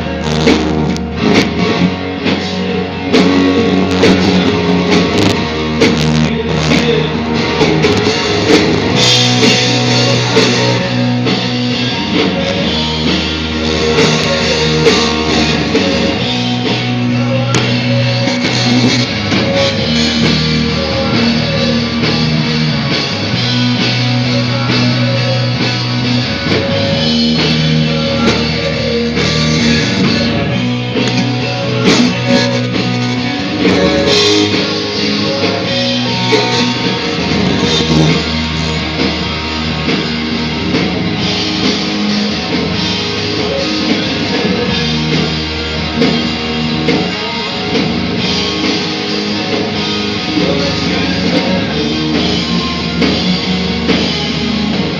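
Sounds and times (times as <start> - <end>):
electric guitar chords: 0.0 - 54.9.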